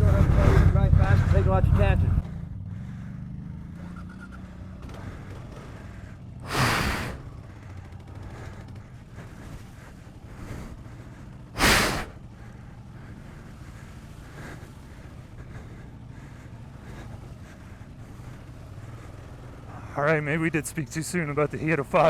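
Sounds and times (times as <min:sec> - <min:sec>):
heavy breaths: 0:00.0 - 0:01.6, 0:02.2 - 0:22.0
motorcycle engine idling: 0:00.0 - 0:22.0.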